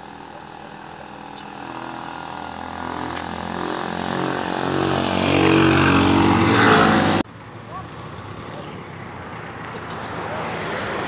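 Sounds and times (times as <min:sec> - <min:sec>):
vehicle engine approaching: 0:00.0 - 0:11.0.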